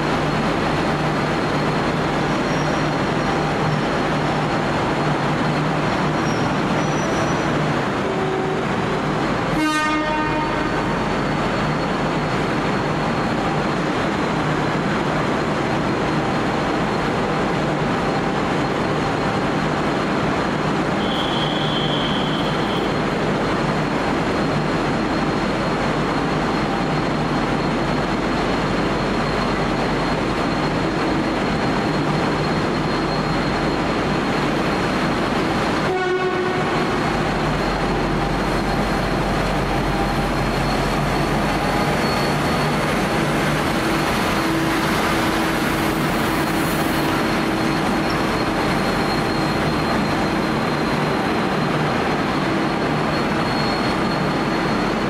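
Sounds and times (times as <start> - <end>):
diesel locomotive running: 0.0 - 55.0.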